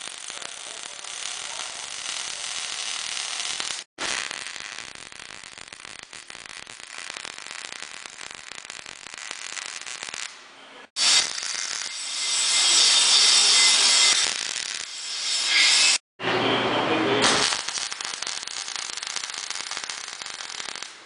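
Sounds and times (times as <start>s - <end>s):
arc welding crackling: 0.0s - 10.4s, 11.0s - 16.0s, 17.2s - 21.0s
friction welder grinding hiss: 0.0s - 10.4s, 11.0s - 16.0s, 17.2s - 21.0s.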